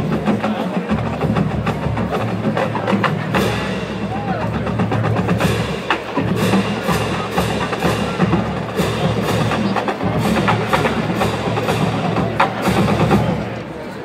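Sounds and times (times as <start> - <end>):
drumline playing cadence: 0.0 - 13.8.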